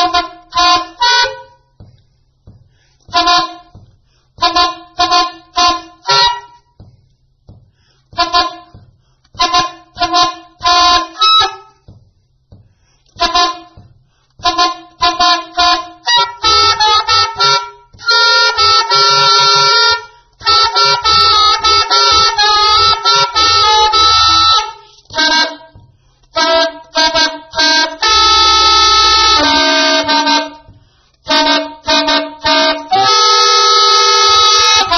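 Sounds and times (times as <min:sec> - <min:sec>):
saxophone honking multiphonic blasts: 0:00.0 - 0:01.9, 0:03.1 - 0:06.9, 0:08.1 - 0:11.9, 0:13.2 - 0:34.9.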